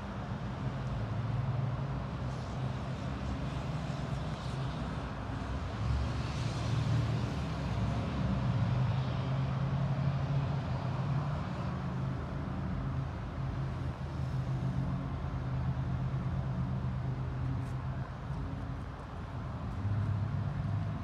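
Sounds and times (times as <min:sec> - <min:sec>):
highway traffic passing: 0:00.0 - 0:21.0.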